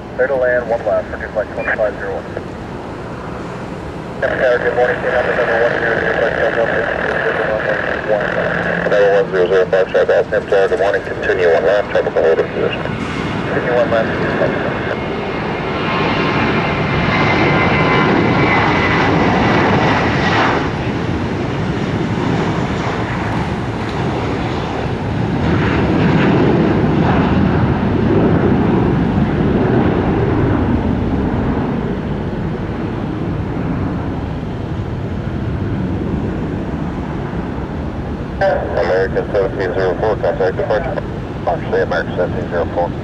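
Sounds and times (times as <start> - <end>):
airliner engines rumbling: 0.0 - 43.0
high engine whine: 0.0 - 43.0.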